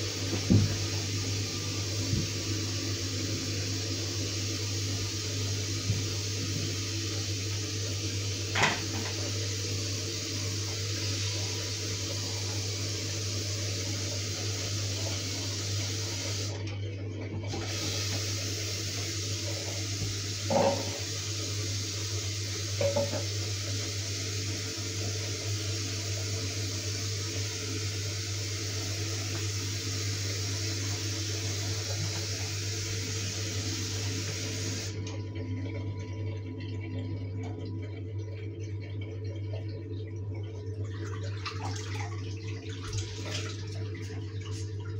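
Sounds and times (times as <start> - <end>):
tap water running into basin: 0.0 - 44.9.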